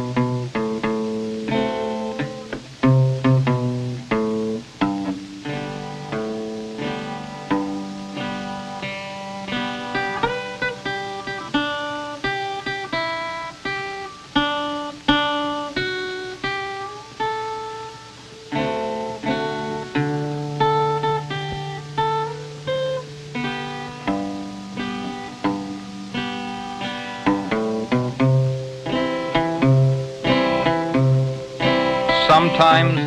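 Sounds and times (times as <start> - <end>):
plucked guitar notes: 0.0 - 33.0.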